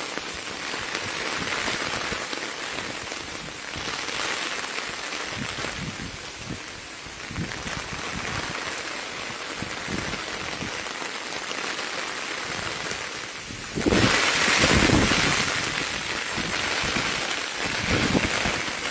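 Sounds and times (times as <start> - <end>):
steady rain hiss: 0.0 - 18.9.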